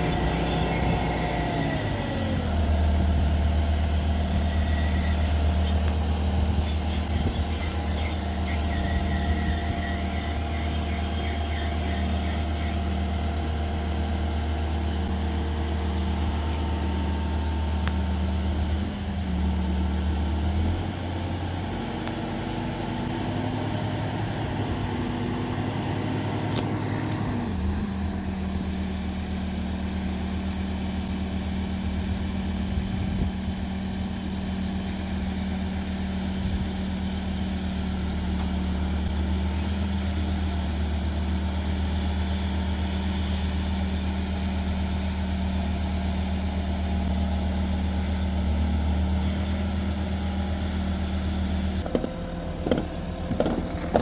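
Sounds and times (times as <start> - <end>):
track loader diesel engine running: 0.0 - 54.0.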